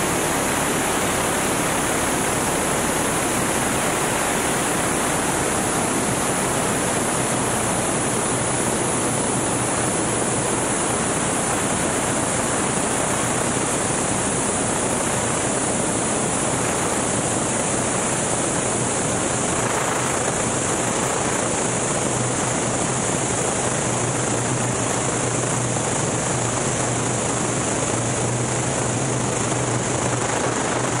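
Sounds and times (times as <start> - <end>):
air rush and runway rumble: 0.0 - 31.0
aircraft engine idling: 0.0 - 31.0.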